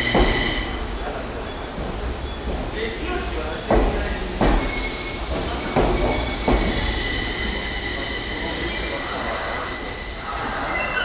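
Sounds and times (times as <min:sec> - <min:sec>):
low train rumble: 0:00.0 - 0:11.0
train wheels squealing: 0:00.0 - 0:11.0.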